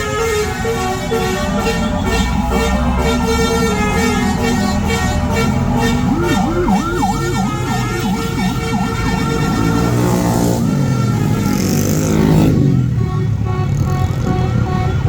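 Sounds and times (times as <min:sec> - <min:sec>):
musical bus horn warbling: 0:00.0 - 0:15.0.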